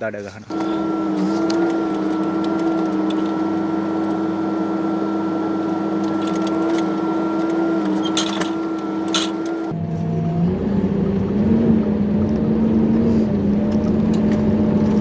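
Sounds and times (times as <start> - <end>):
diesel engine droning with whine: 0.5 - 15.0.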